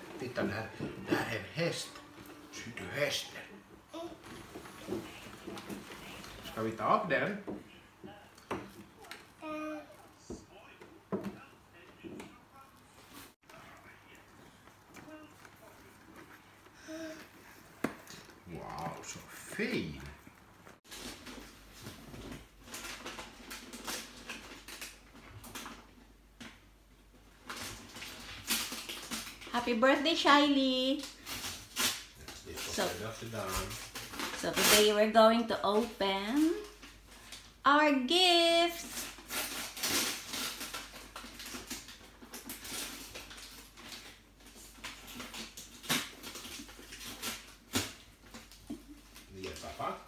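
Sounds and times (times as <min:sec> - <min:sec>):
paper gift bags rustling: 0:00.0 - 0:07.4, 0:13.0 - 0:25.9, 0:27.2 - 0:50.0.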